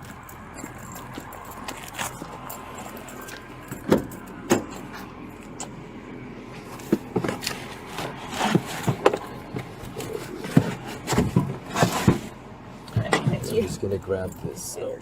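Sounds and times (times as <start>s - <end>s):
handling rustle and clatter: 0.0s - 5.8s, 6.5s - 14.8s.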